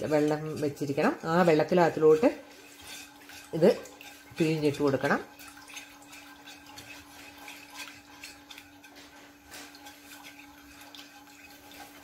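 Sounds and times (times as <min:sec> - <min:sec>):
stirring thin mixture in pan: 0:00.0 - 0:12.0.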